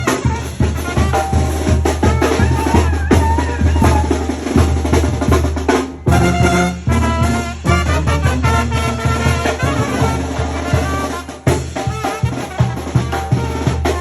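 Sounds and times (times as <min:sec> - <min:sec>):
held melody line: 0:00.0 - 0:14.0
steady drum beat: 0:00.0 - 0:14.0.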